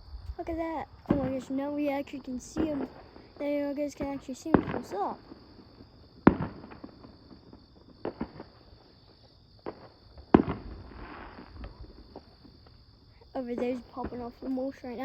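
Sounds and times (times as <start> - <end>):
fireworks bangs: 0.4 - 15.0.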